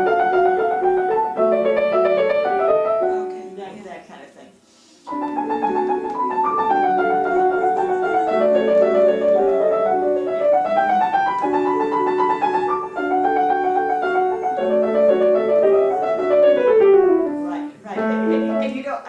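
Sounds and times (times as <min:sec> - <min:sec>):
classical piano piece: 0:00.0 - 0:04.0, 0:05.1 - 0:19.0.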